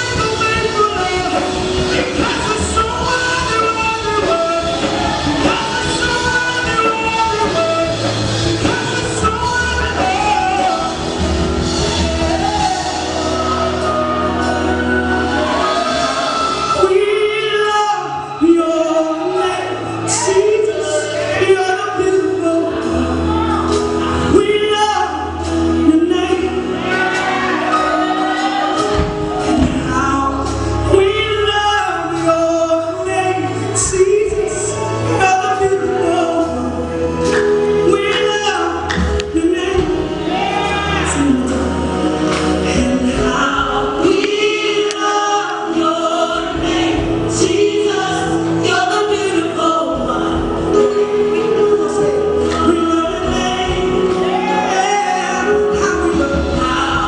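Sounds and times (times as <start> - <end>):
backing singers: 0.0 - 57.0
instrumental backing with bass: 0.0 - 57.0
woman singing into a microphone: 0.0 - 57.0.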